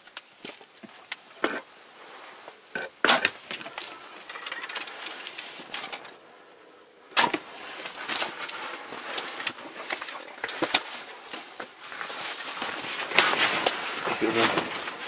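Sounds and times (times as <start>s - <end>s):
close rustling: 0.0s - 6.5s, 7.2s - 15.0s.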